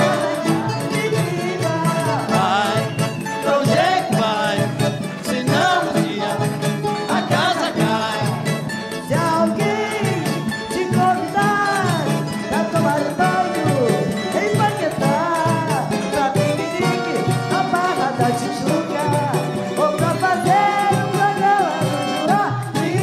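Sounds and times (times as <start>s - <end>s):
accordion: 0.0s - 23.0s
hand drums: 0.0s - 23.0s.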